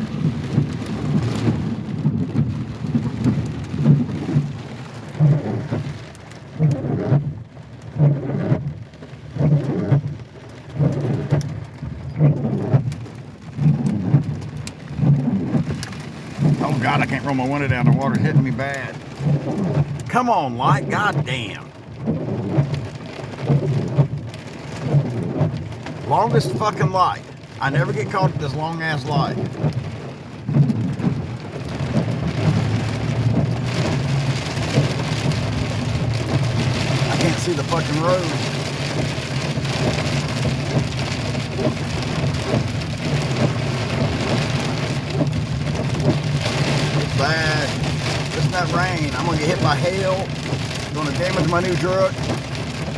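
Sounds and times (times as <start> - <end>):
heavy rain on a truck: 0.0 - 52.9.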